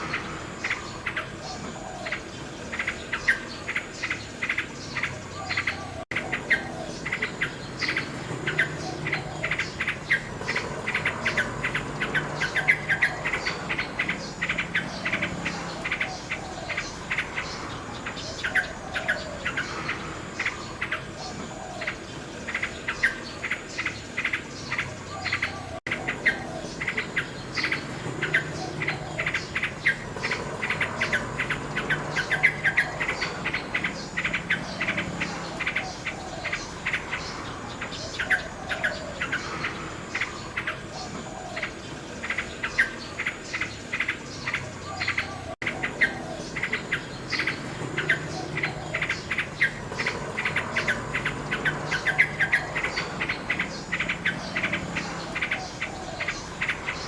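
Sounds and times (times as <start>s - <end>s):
insects chirping: 0.0s - 57.0s
nightingale singing: 0.0s - 57.0s.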